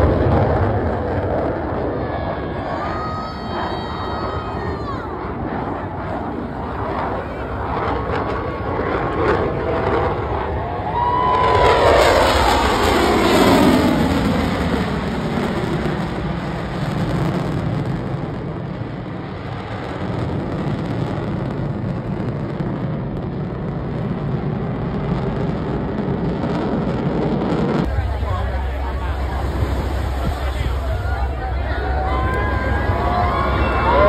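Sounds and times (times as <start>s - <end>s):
jet flying past: 0.0s - 34.0s.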